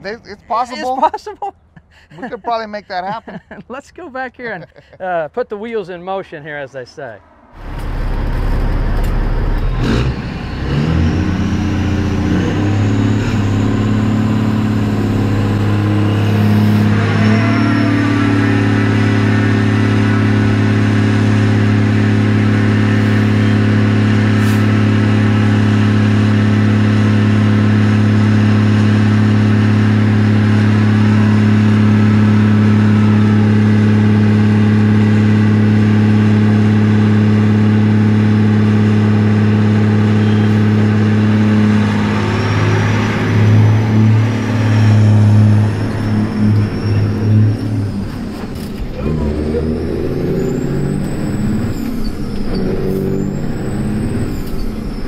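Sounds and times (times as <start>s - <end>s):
diesel engine revving: 7.2s - 55.0s.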